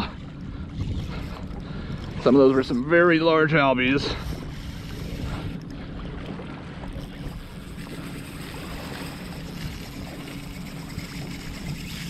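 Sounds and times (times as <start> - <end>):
water around kayak: 0.0 - 12.0
wind buffeting microphone: 0.0 - 12.0.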